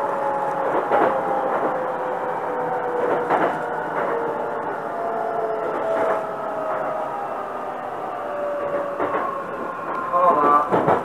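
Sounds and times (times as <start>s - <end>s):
station and train noise: 0.0s - 11.0s.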